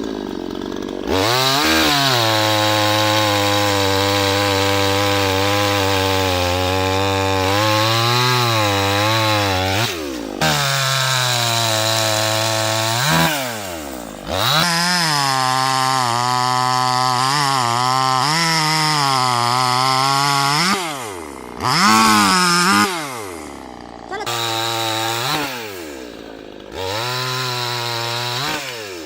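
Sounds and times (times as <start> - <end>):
chainsaw engine running fast: 0.0 - 29.0.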